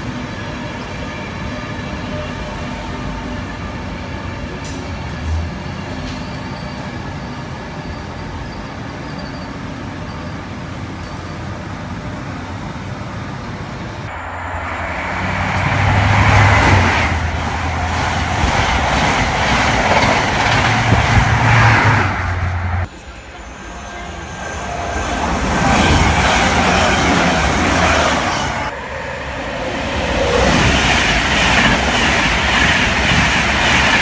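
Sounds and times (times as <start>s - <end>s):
train rolling on rails: 0.0s - 34.0s.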